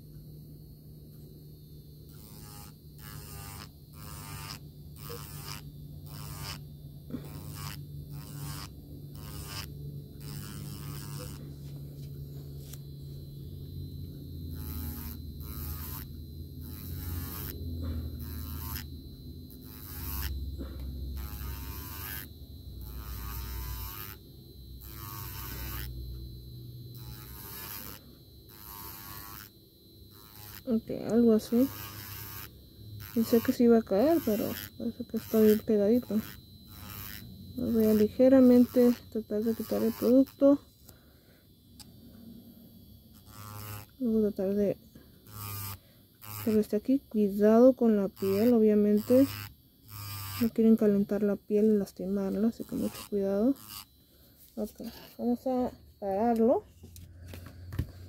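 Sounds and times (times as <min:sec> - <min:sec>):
electric nail file grinding: 0:00.0 - 0:58.0
electric nail file motor hum: 0:00.0 - 0:58.0.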